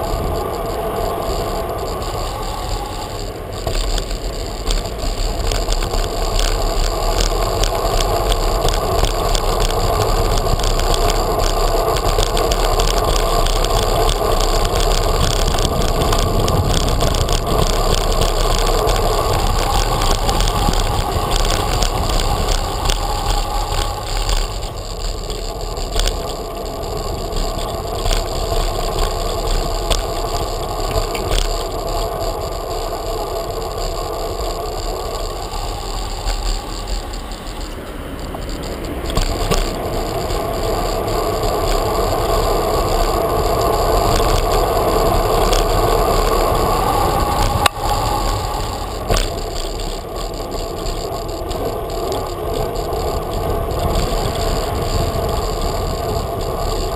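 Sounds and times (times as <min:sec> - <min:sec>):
bicycle tyres rolling over paving: 0:00.0 - 0:56.9.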